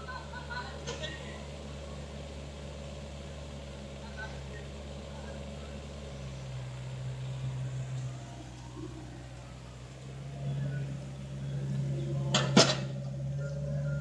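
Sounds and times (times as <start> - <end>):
diesel excavator engine running: 0.0 - 14.0.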